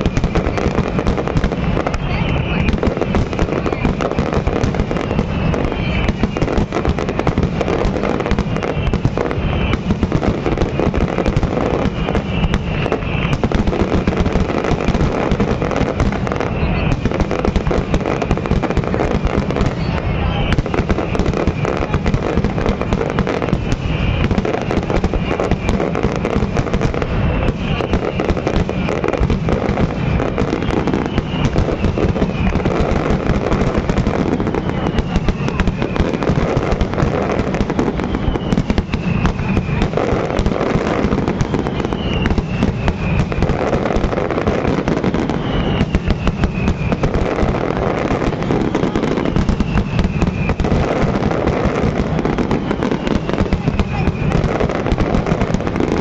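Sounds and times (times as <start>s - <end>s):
falling whistles: 0.0s - 14.8s, 16.3s - 18.8s, 19.4s - 26.4s, 27.1s - 54.8s
fireworks banging and crackling: 0.0s - 56.0s.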